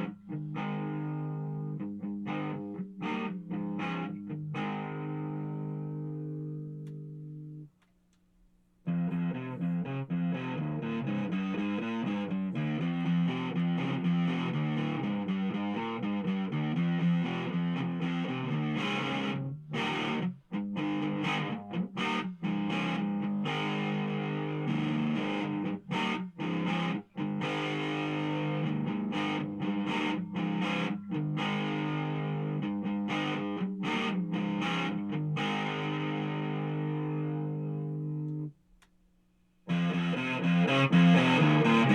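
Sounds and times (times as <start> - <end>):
distorted electric guitar: 0.0 - 7.7, 8.9 - 38.5, 39.7 - 41.9.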